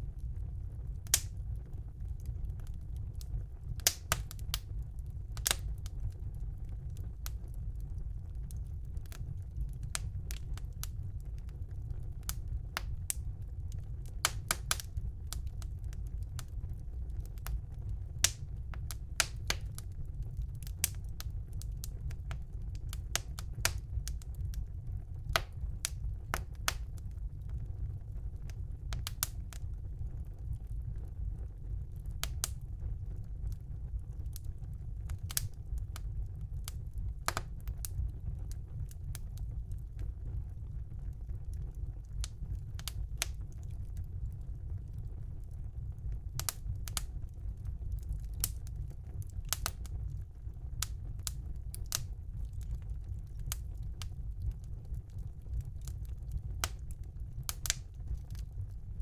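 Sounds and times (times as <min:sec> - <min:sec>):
fire crackles and pops: 0:00.0 - 0:59.0
fire flames rumbling: 0:00.0 - 0:59.0.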